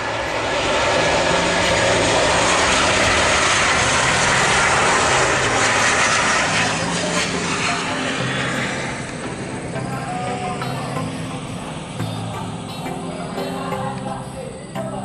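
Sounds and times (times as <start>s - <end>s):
airliner engines rushing: 0.0s - 15.0s.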